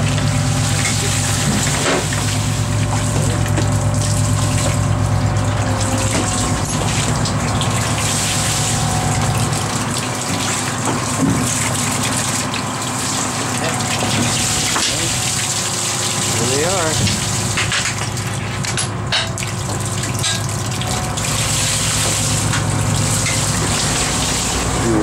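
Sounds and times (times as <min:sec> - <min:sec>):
boat machinery humming: 0:00.0 - 0:25.0
water splashing on deck: 0:00.0 - 0:25.0.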